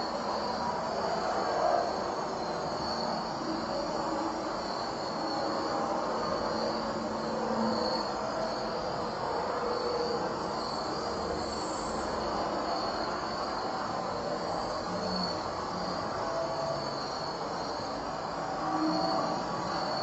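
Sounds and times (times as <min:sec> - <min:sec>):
continuous rushing rumble: 0:00.0 - 0:20.0
crickets chirping: 0:00.0 - 0:20.0.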